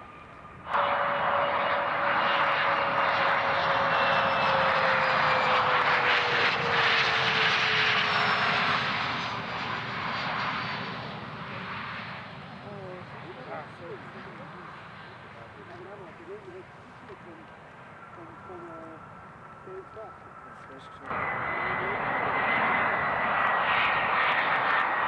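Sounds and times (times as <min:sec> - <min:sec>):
jet passing with whine: 0:00.0 - 0:25.0.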